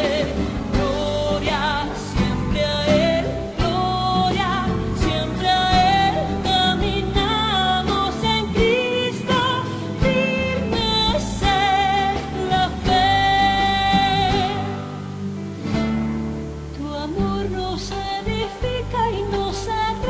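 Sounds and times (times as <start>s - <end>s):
song with singer and instruments: 0.0s - 20.0s.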